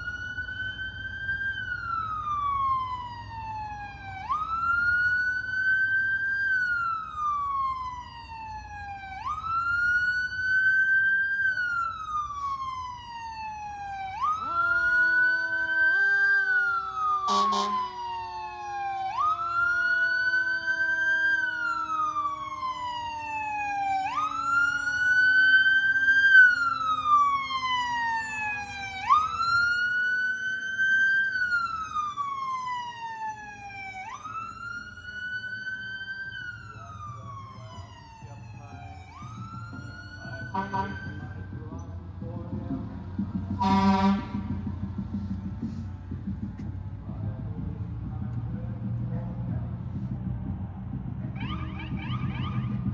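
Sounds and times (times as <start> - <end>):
vehicle siren wailing: 0.0 - 52.9.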